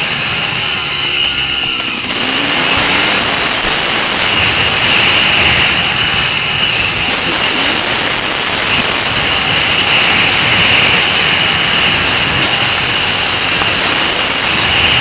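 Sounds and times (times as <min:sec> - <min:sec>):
dirt bike engine running: 0:00.0 - 0:15.0
wind rush on microphone: 0:00.0 - 0:15.0.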